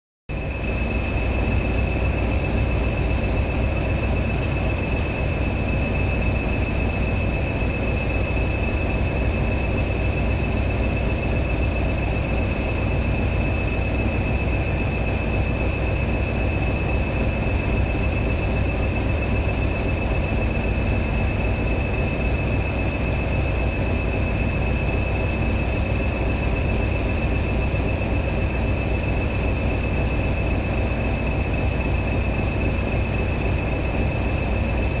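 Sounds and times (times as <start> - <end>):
locomotive engine whine: 0.3 - 35.0
train rumbling on track: 0.3 - 35.0.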